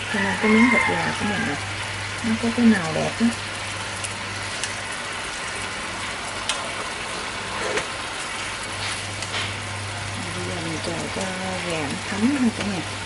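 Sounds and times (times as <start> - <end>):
sauce bubbling and sizzling in pan: 0.0 - 13.0.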